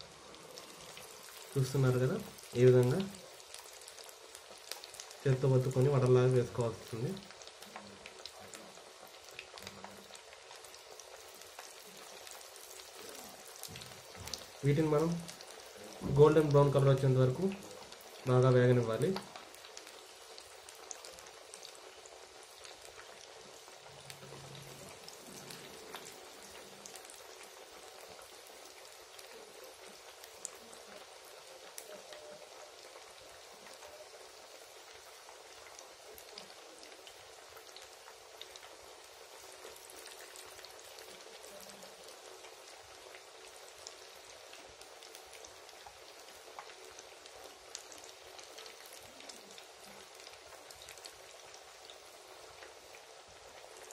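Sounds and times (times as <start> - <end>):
fritters sizzling in oil: 0.0 - 53.9
oil popping and crackling: 0.0 - 53.9.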